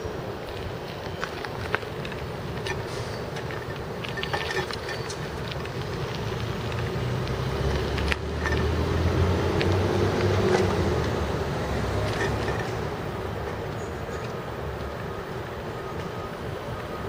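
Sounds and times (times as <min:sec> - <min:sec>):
street noise: 0:00.0 - 0:17.0
vehicle engine rumbling: 0:00.0 - 0:17.0.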